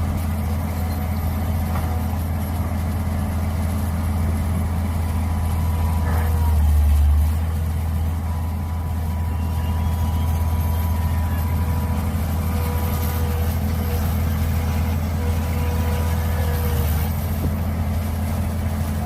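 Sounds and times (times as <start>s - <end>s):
excavator engine humming: 0.0s - 19.0s.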